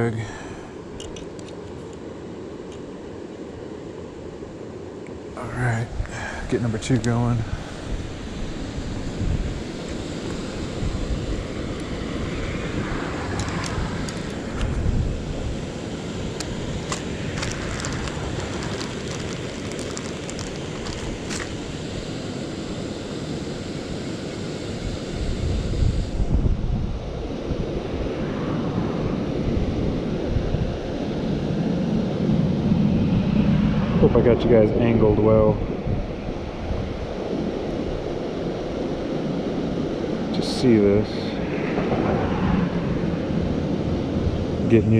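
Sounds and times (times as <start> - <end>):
wind buffeting microphone: 5.4 - 22.2, 24.8 - 44.9.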